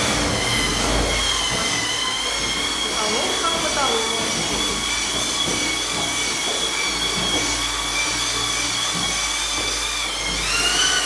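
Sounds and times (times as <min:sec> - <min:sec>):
electric drill mixer whining: 0:00.0 - 0:11.0.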